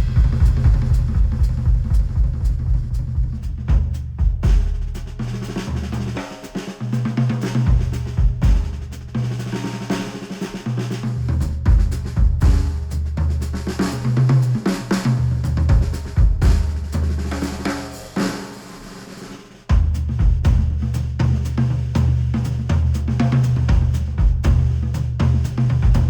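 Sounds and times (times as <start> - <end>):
drum kit and bass instrumental: 0.0 - 26.0.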